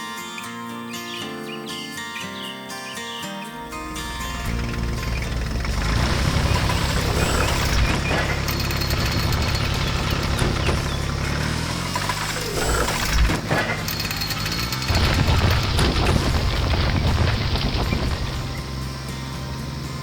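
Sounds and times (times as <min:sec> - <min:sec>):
heavy machine engine rumbling: 0:03.6 - 0:20.0.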